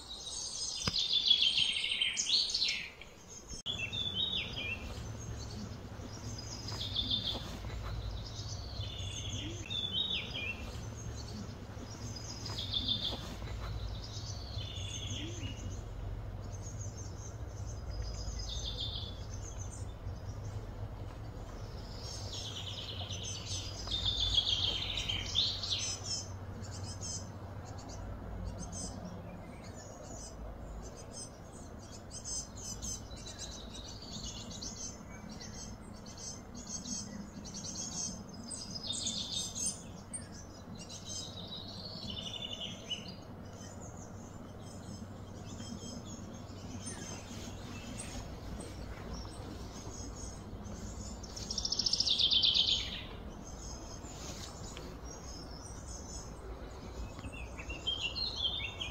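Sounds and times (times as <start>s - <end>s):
birds singing and calling: 0.0s - 58.9s
low background hum: 0.0s - 58.9s.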